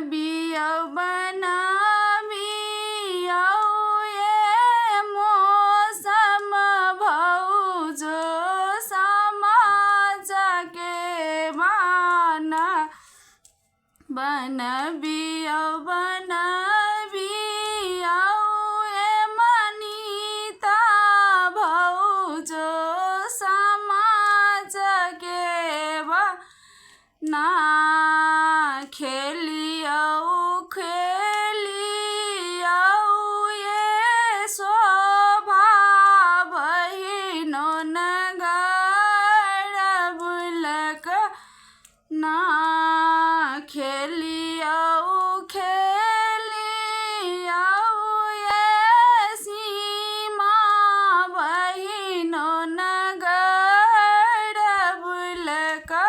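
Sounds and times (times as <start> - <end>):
woman singing: 0.0 - 13.2, 14.0 - 56.0.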